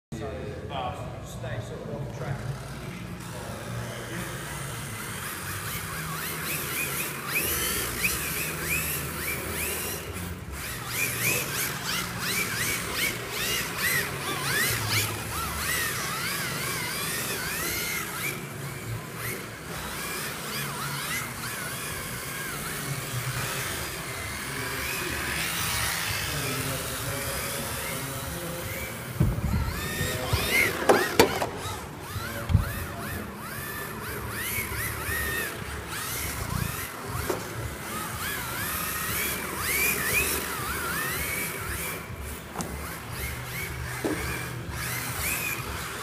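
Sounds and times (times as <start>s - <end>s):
electric motors whining: 0.2s - 46.0s.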